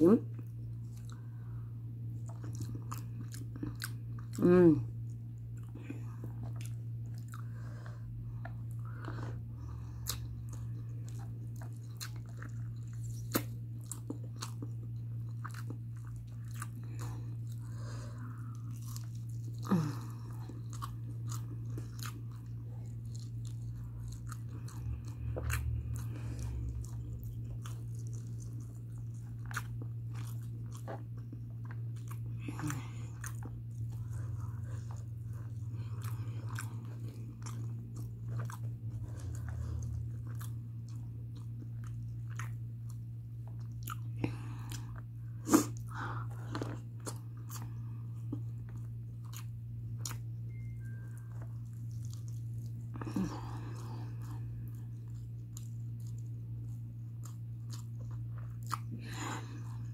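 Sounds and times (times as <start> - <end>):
steady low hum: 0.0 - 59.9
person chewing with mouth clicks: 0.3 - 59.9.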